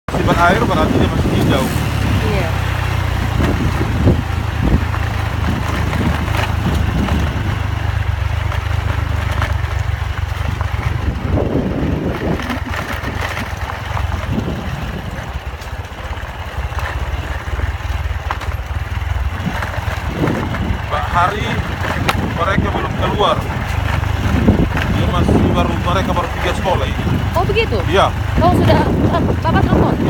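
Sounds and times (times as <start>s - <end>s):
motorcycle engine running: 0.1s - 30.0s
wind and road noise: 0.1s - 30.0s.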